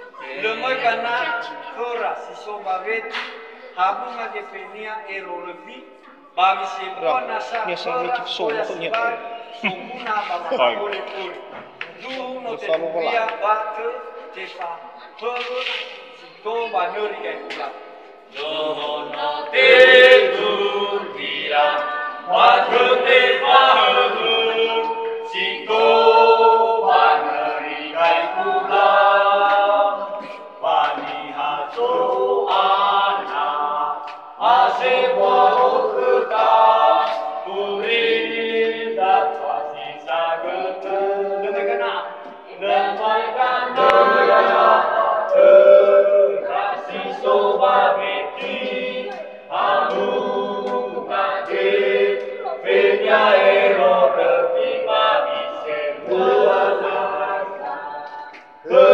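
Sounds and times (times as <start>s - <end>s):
group singing unaccompanied: 0.0s - 58.9s.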